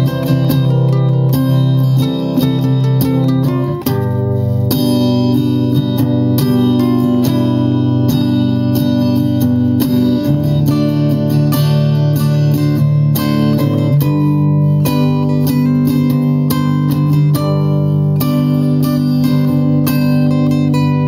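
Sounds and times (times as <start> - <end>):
single-note guitar melody: 0.0 - 21.0
strummed guitar chords: 0.0 - 21.0.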